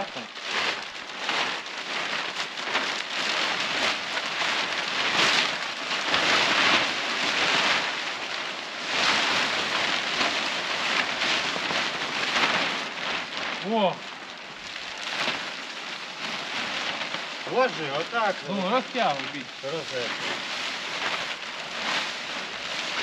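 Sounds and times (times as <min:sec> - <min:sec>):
plastic sheet rustling and crackling: 0:00.0 - 0:23.0.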